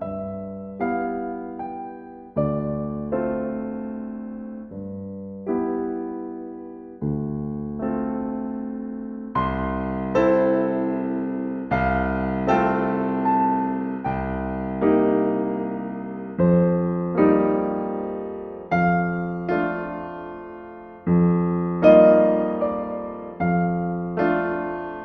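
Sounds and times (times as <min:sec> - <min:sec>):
gentle solo piano: 0:00.0 - 0:25.0.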